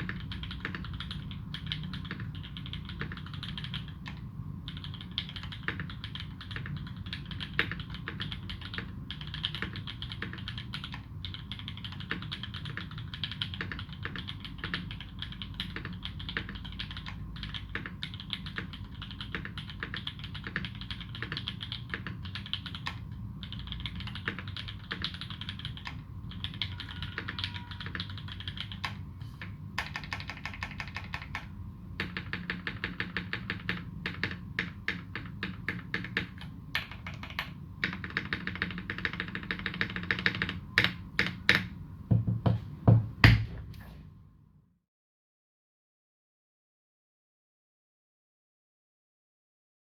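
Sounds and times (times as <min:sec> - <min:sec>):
mechanical keyboard typing: 0:00.0 - 0:29.0, 0:29.8 - 0:41.7.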